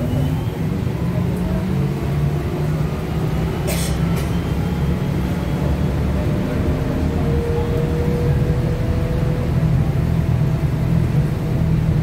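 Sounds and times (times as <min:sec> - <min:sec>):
trolleybus ride rumble: 0:00.0 - 0:12.0.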